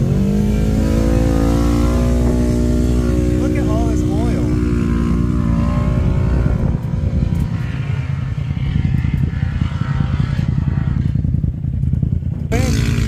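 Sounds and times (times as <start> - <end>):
low fluttering rumble: 0.0 - 13.0
vehicle engine running: 0.0 - 13.0.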